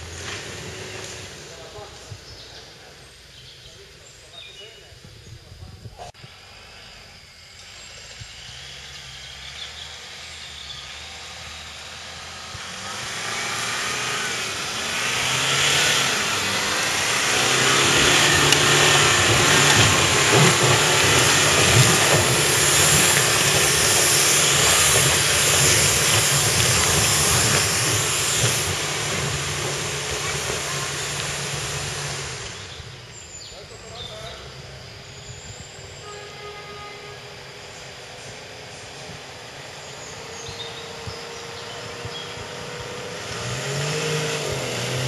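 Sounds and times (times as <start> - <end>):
loud hiss: 0.0 - 45.0
off-road vehicle engine under load: 0.0 - 45.0.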